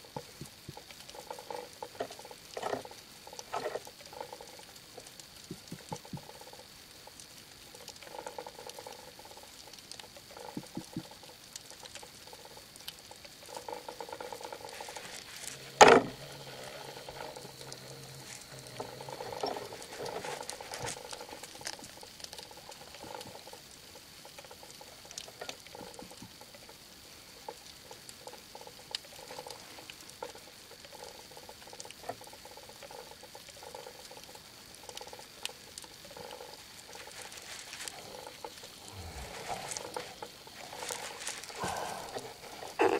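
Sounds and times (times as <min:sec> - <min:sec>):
faint underwater crackling clicks: 0:00.0 - 0:42.9
soft water rushes: 0:00.0 - 0:42.9.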